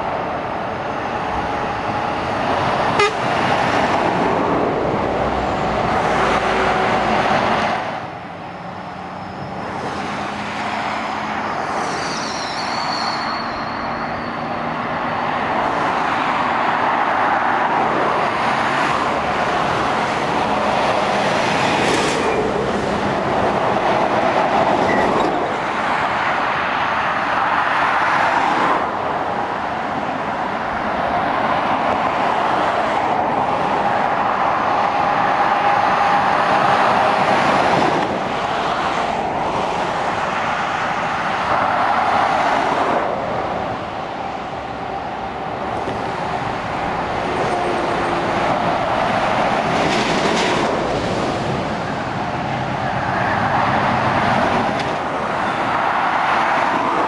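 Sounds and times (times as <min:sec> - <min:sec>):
motorway traffic passing: 0:00.0 - 0:57.0.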